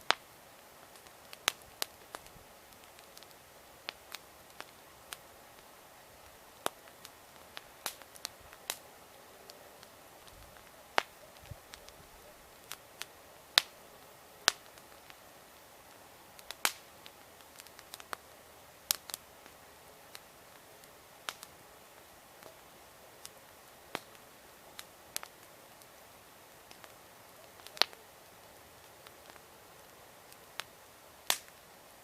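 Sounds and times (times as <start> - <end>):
bonfire crackling: 0.0 - 32.0
faint steady hiss: 0.0 - 32.0.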